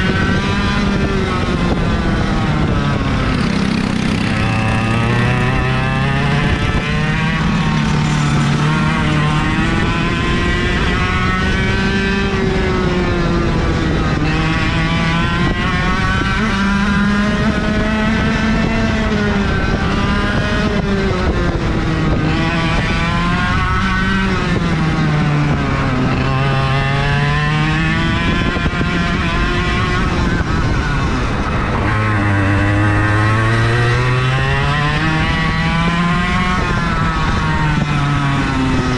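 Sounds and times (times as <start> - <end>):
kart engine at racing speed: 0.0 - 38.9.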